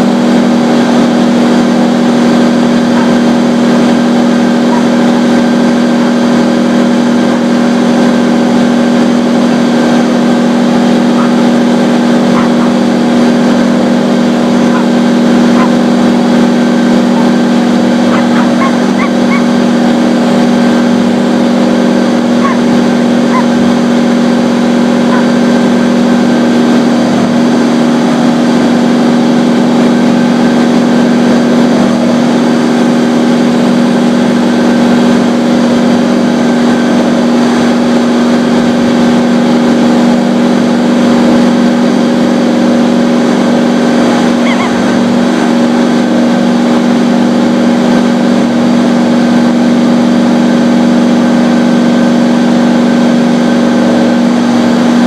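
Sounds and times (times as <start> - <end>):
leaf blower running: 0.0 - 55.0.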